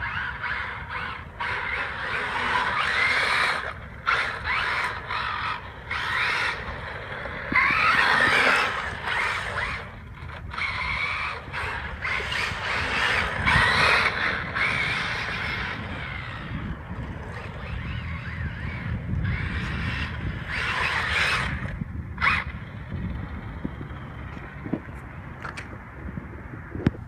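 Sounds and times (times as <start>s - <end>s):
electric motor and gears whining: 0.0s - 27.0s.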